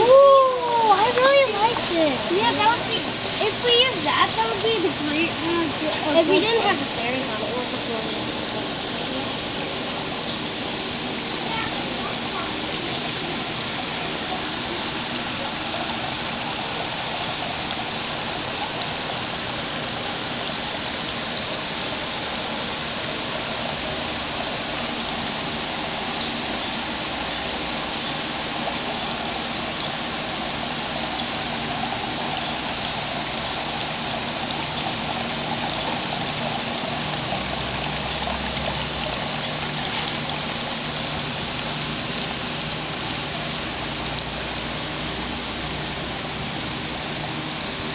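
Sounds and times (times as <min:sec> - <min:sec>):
fountain water trickling: 0:00.0 - 0:47.9.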